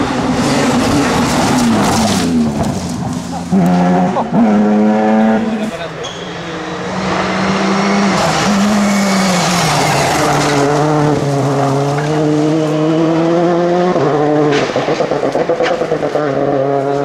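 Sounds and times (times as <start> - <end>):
rally car engine at high revs: 0.0 - 17.0
tyre and road noise: 0.0 - 17.0.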